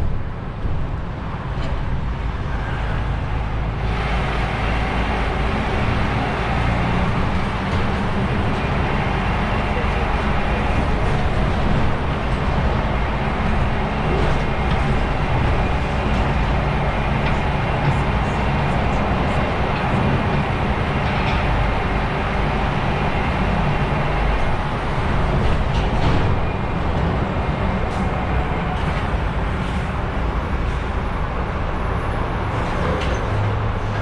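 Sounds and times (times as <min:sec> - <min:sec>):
truck engine and road noise: 0:00.0 - 0:34.0.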